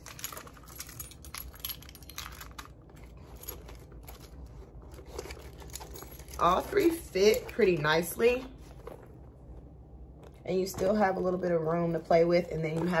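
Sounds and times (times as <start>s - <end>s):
small clicks and rustles of handling: 0.0s - 10.4s.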